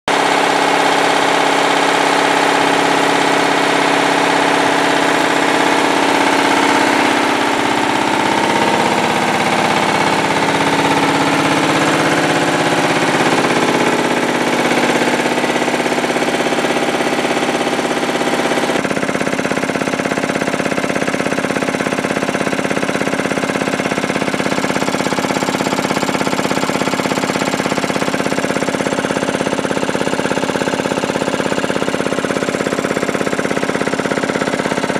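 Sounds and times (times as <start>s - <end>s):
air compressor clattering: 0.1s - 34.9s.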